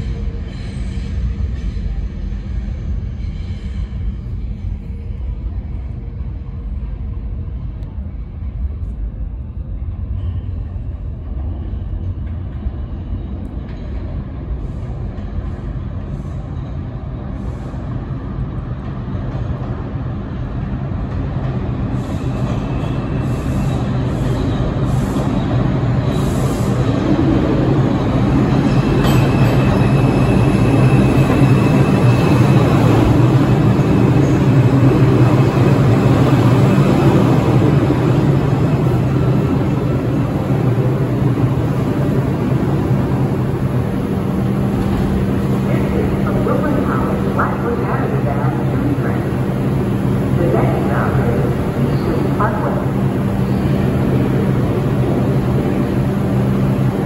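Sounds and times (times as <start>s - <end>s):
subway train low rumble: 0.0s - 57.0s.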